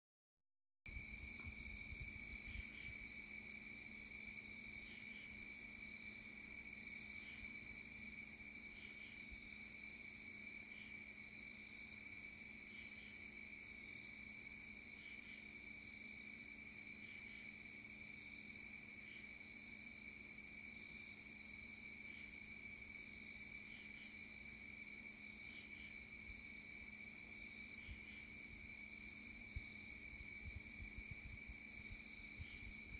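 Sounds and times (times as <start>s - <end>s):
crickets trilling: 0.9s - 32.9s.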